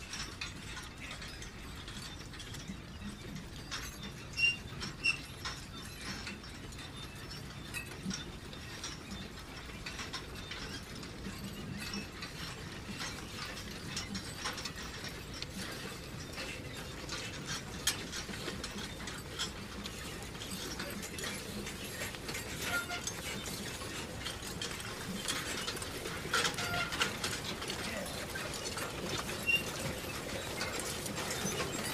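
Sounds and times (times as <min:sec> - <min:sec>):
manure spreader rumbling and rattling: 0:04.4 - 0:31.9.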